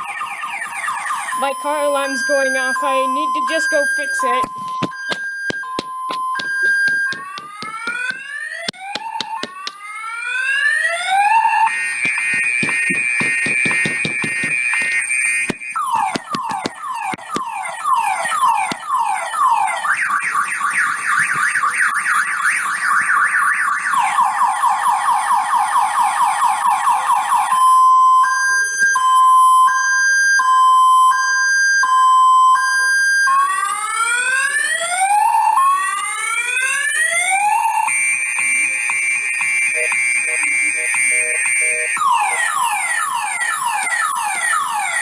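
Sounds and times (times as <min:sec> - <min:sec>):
car alarm siren: 0:00.0 - 0:45.0.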